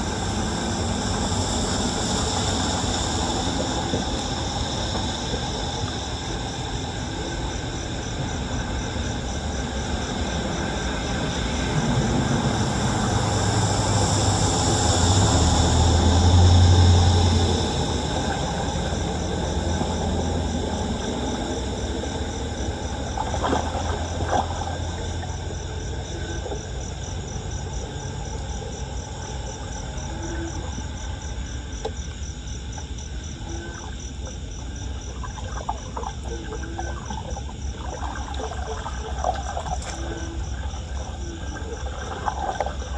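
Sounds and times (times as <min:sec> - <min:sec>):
insects chirping: 0:00.0 - 0:42.9
low vehicle rumble: 0:00.0 - 0:42.9
outdoor background noise: 0:00.0 - 0:42.9.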